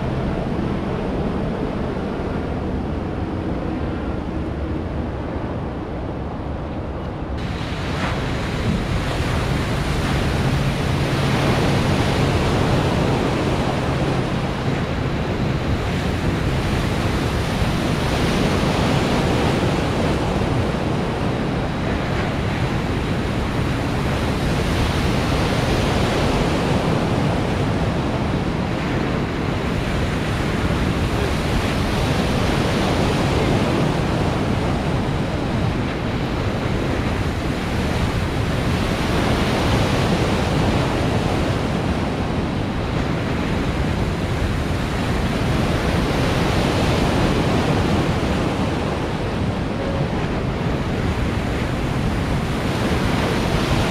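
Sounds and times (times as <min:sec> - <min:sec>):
waves rushing and breaking: 0:00.0 - 0:53.9
wind on microphone: 0:00.0 - 0:53.9.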